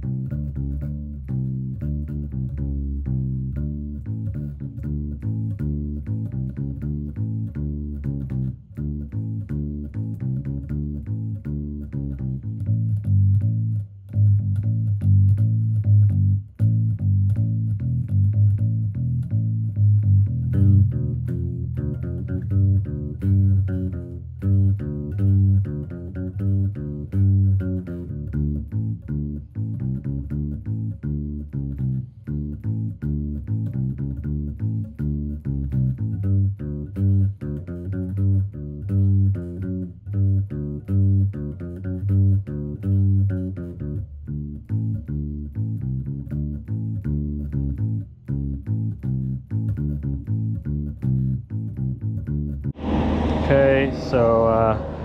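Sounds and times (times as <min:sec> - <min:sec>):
guitar: 0:00.0 - 0:55.0
plucked bass guitar: 0:00.0 - 0:55.0.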